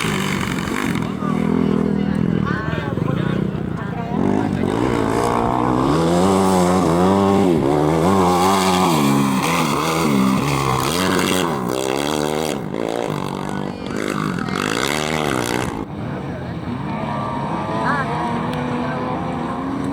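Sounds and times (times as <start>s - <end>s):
engine revving hard: 0.0s - 2.4s, 4.2s - 15.9s, 16.6s - 19.9s.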